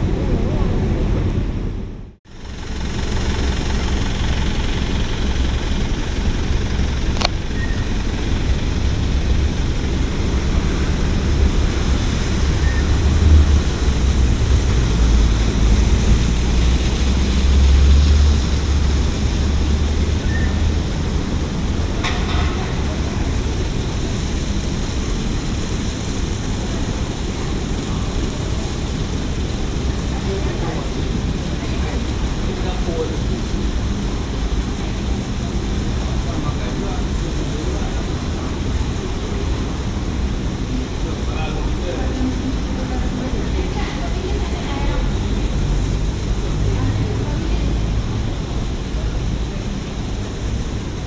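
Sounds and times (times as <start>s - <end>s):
car engine and road rumble: 0.0s - 51.0s.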